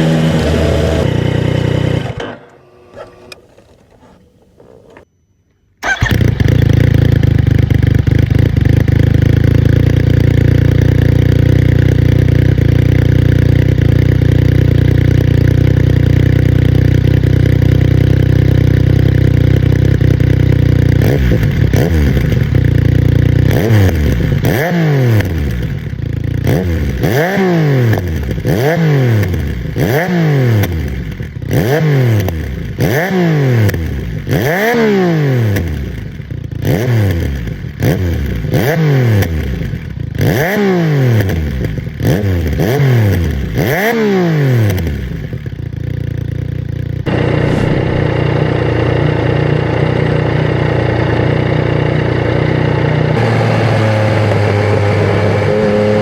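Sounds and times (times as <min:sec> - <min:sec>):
motorcycle engine idling and revving: 0:00.0 - 0:05.1, 0:05.8 - 0:56.0.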